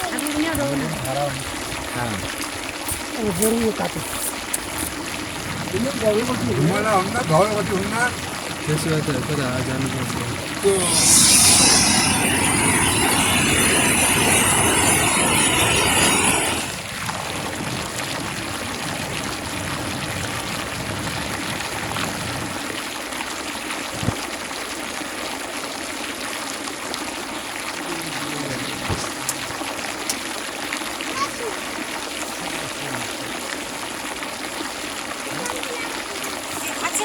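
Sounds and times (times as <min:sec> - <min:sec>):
water rushing: 0:00.0 - 0:17.1, 0:20.5 - 0:37.0.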